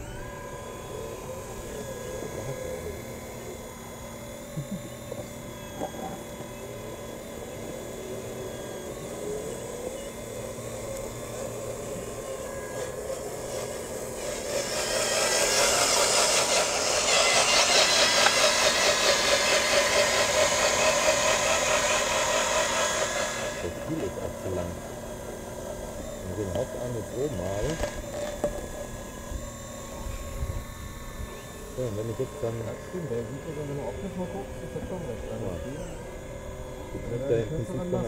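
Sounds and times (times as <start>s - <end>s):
buzzing gear-motor: 0.0s - 38.0s
model excavator motors whining: 0.0s - 38.0s.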